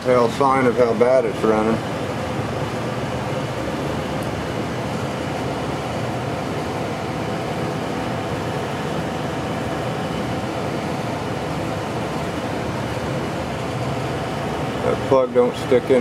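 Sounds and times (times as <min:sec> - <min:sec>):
fan motor drone: 0:00.0 - 0:16.0.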